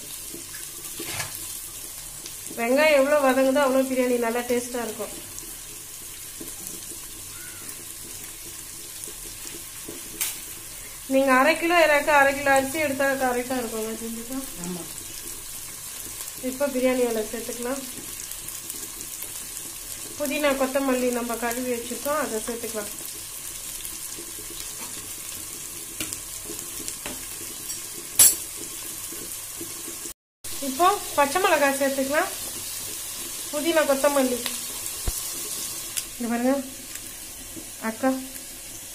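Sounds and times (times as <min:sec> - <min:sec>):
onions sizzling in oil: 0:00.0 - 0:38.9.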